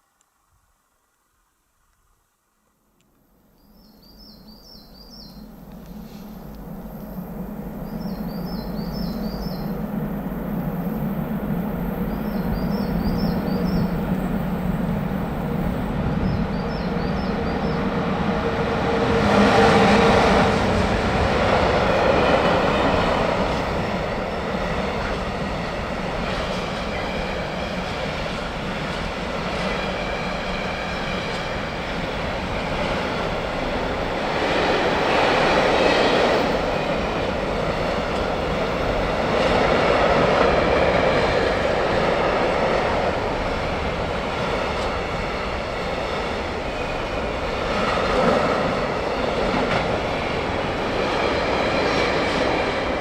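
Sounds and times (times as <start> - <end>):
train passing on rails: 3.1 - 53.0.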